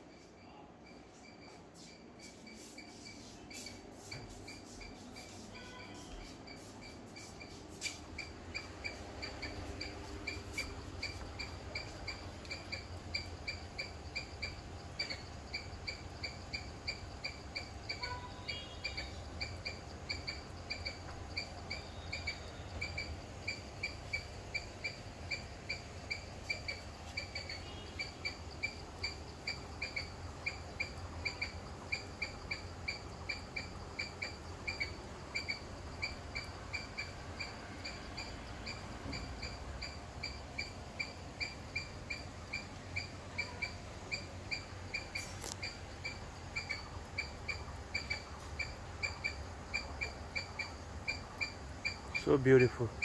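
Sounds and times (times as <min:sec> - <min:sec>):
faint bird calls: 0:07.2 - 0:53.0
bird repeating high chirp: 0:08.2 - 0:52.6.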